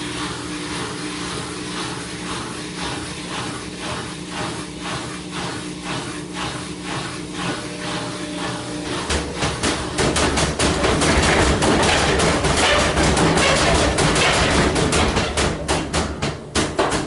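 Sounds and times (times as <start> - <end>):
water and clothes swishing: 0.0 - 14.2
washing machine motor hum: 0.0 - 17.0.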